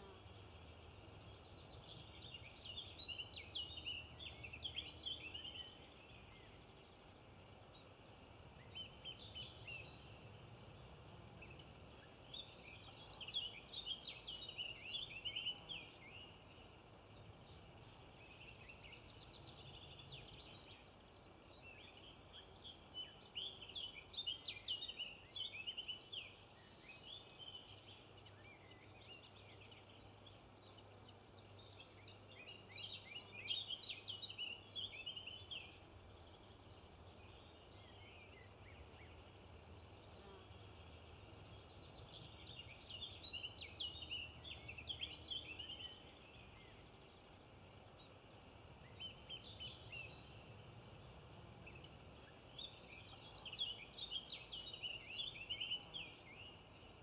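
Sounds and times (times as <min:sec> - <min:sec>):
songbirds twittering: 0:00.0 - 0:57.0.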